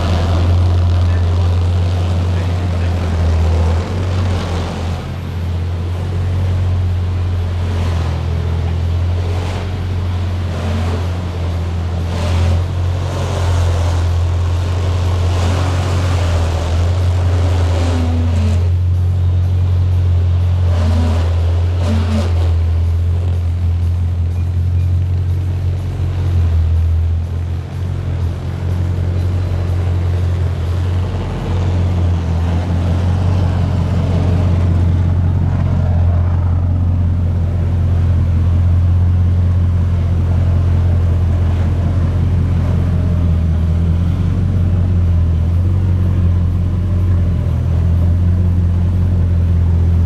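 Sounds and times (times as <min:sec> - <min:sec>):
car engine running: 0:00.0 - 0:50.0.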